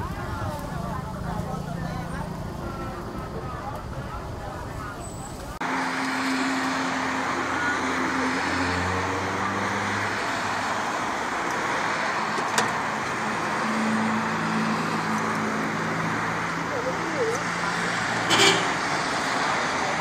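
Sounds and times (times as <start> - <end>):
passing vehicles: 0.0 - 20.0.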